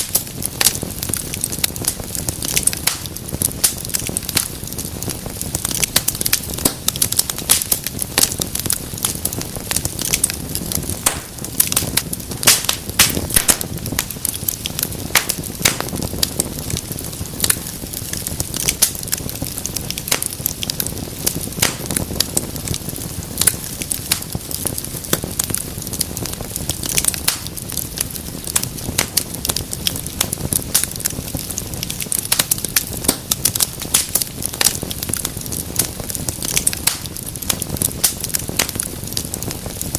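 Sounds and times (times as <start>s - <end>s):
low rumble of flame: 0.0s - 39.9s
wood fire crackling and popping: 0.0s - 39.9s.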